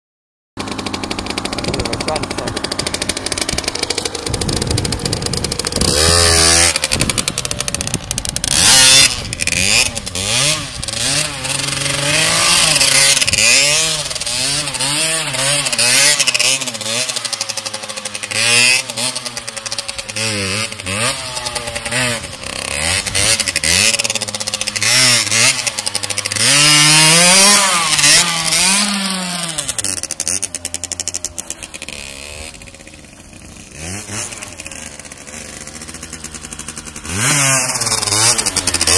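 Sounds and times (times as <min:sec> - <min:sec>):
small motorcycle engine revving: 0:00.6 - 0:38.9.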